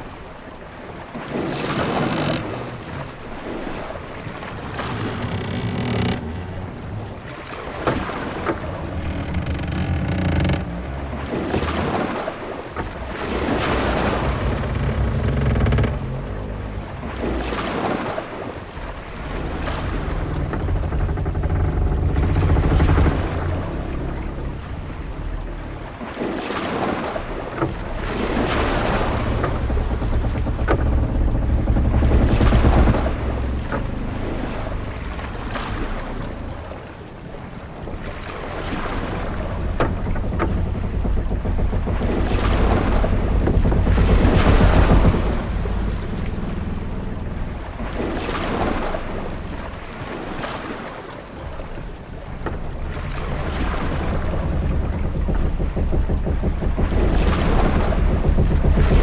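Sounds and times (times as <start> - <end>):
waves washing against hull: 0.0 - 59.0
wind: 0.0 - 59.0
deep rumble: 1.3 - 50.6, 51.2 - 59.0
short knocks: 1.5 - 50.3, 51.4 - 59.0.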